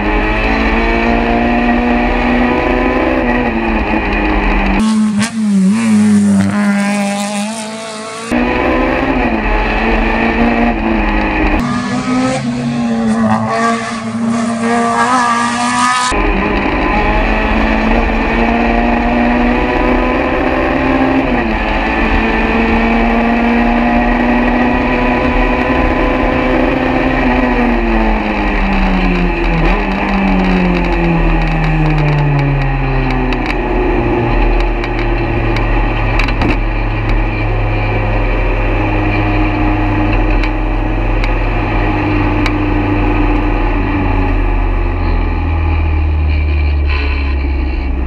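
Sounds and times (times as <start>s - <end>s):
race car engine at high revs: 0.0s - 48.0s.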